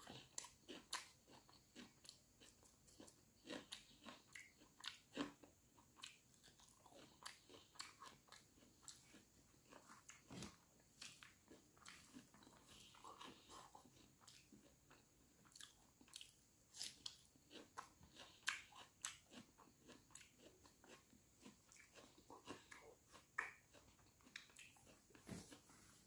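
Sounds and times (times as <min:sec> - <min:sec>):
man chewing rice: 0:00.0 - 0:26.0.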